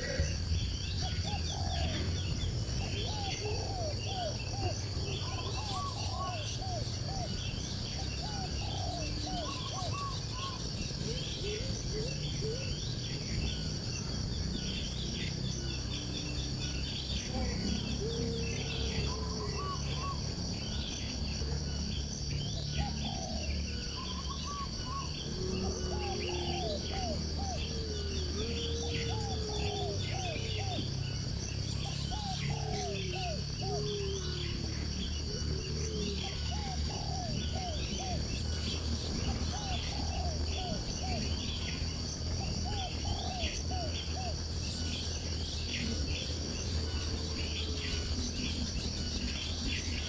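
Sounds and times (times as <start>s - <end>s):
birds chirping: 0.0s - 50.0s
high-pitched insect drone: 0.0s - 50.0s.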